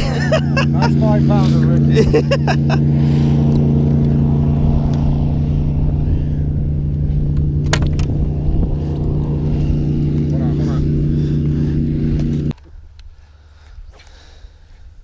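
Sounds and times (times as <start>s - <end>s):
boat motor humming: 0.0s - 13.5s.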